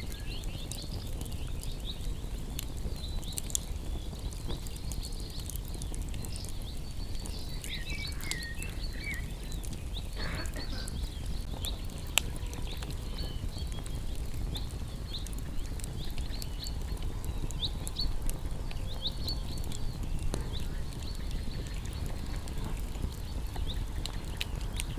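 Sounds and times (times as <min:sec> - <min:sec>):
small birds chirping: 0:00.0 - 0:24.9
wood fire crackling and popping: 0:00.0 - 0:24.9.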